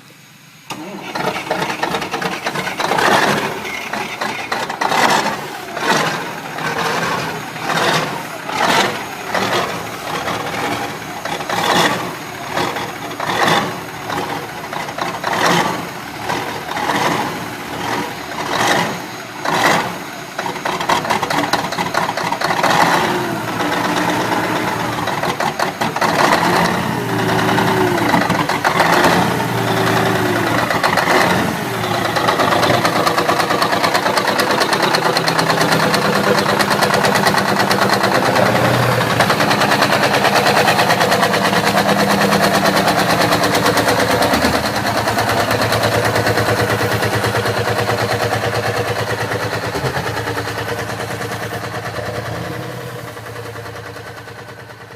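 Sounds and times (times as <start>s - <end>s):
diesel engine starting and idling: 0.0s - 54.9s.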